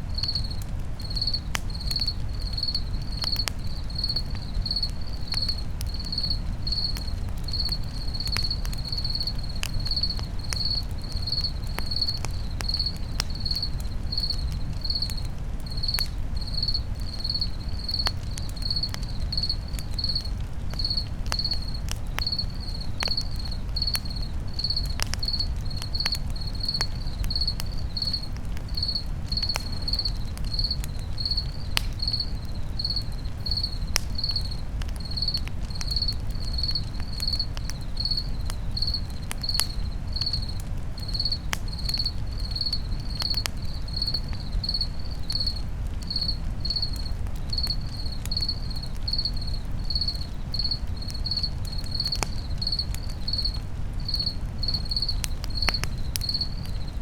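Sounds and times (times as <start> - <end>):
campfire crackling and popping: 0.0 - 57.0
cricket chirping: 0.1 - 57.0.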